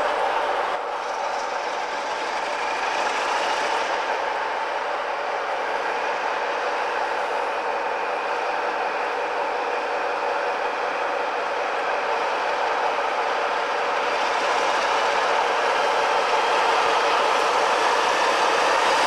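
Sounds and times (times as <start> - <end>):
diesel locomotive engines running: 0.0 - 19.0.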